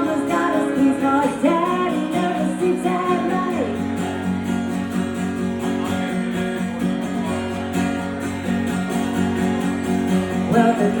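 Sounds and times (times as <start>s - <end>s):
strummed guitar chords: 0.0s - 11.0s.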